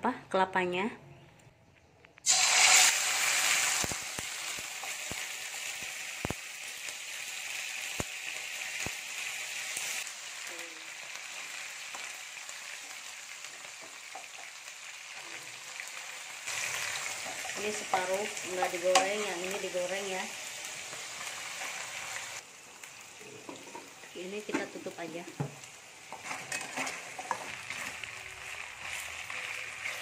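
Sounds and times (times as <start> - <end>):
chicken sizzling in hot oil: 2.2 - 30.0.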